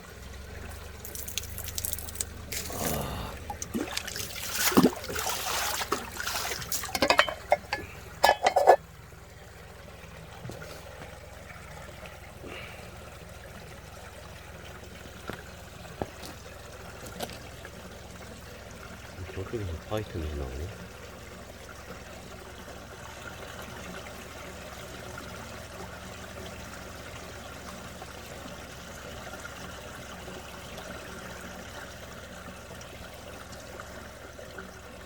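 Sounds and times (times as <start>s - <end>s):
spring water splashing and trickling: 0.0s - 35.0s.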